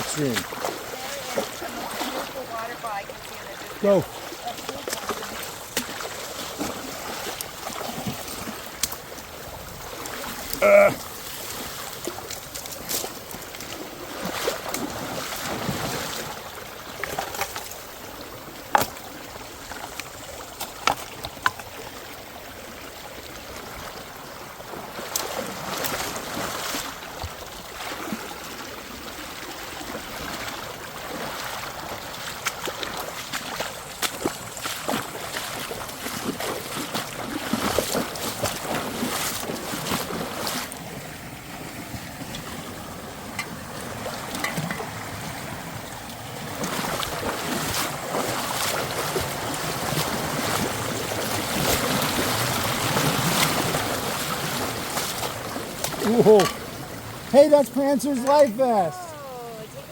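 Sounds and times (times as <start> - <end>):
splashing footsteps in water: 0.0 - 21.8, 24.5 - 58.9
creek water running: 0.0 - 59.9.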